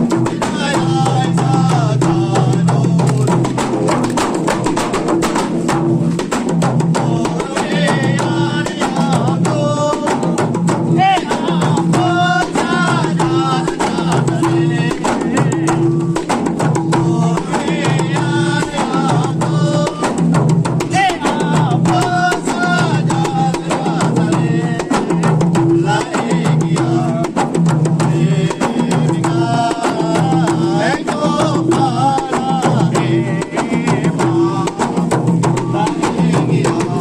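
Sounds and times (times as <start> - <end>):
frame drums beaten by hand: 0.0 - 37.0.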